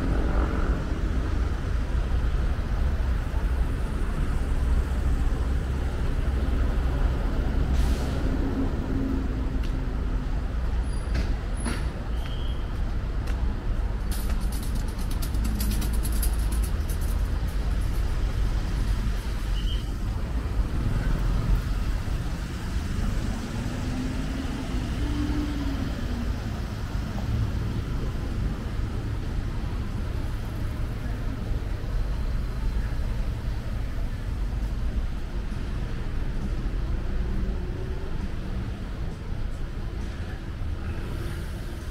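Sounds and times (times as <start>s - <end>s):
rumble of passing cars and buses: 0.0s - 41.9s.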